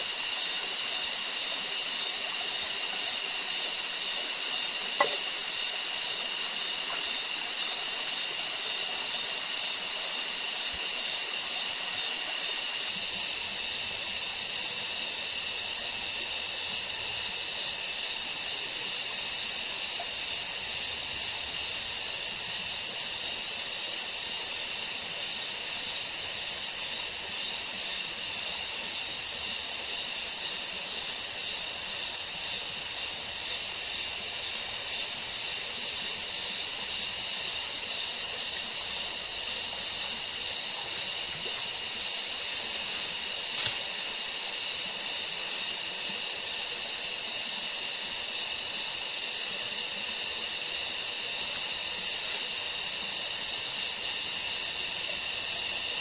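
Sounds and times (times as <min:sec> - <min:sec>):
high-pitched pulsing hiss: 0:00.0 - 0:56.0.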